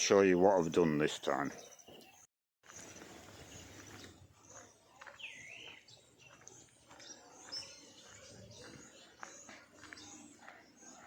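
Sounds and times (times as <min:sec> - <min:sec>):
birds chirping: 0:00.0 - 0:11.0
faint outdoor ambience: 0:00.0 - 0:11.0.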